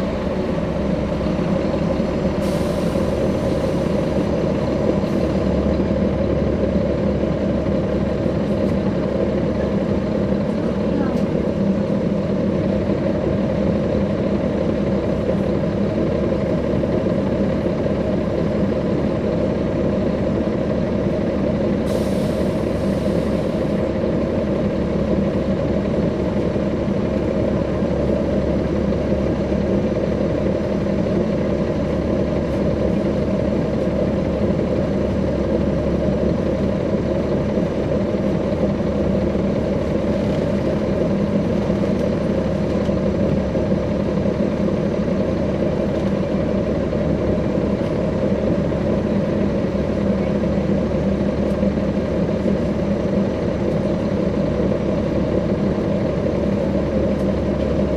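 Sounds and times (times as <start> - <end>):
bus diesel engine idling: 0.0 - 57.9.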